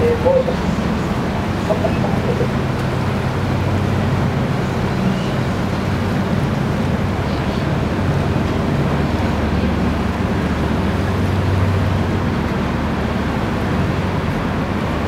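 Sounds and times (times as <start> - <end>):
motor boat engine humming: 0.0 - 15.0
water and air noise: 0.0 - 15.0.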